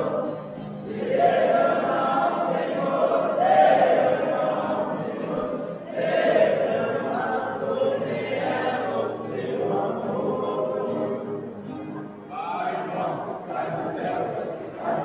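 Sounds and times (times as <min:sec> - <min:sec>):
group singing a religious chant: 0:00.0 - 0:11.6, 0:12.5 - 0:15.0.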